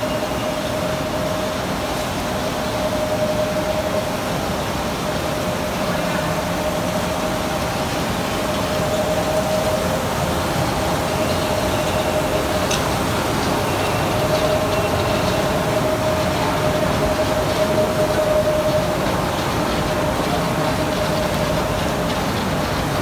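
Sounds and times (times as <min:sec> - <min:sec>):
industrial machinery noise: 0:00.0 - 0:23.0.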